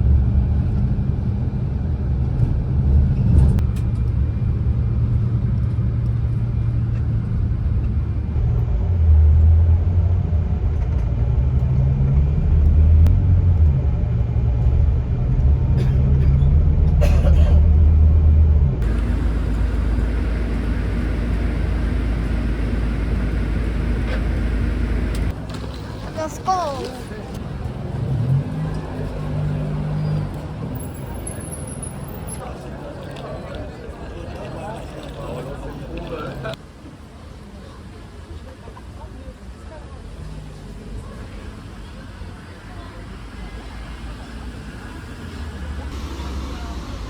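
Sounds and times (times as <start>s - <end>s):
vehicle rumble from inside: 0.0s - 36.6s, 40.1s - 47.0s.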